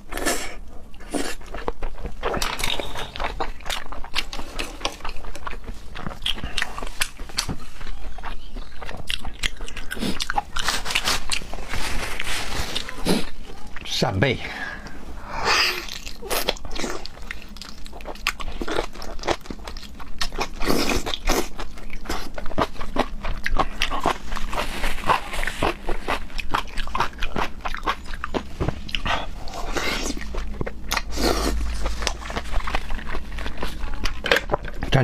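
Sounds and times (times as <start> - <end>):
wet chewing and lip-smacking: 0.1 - 11.6, 15.8 - 35.0.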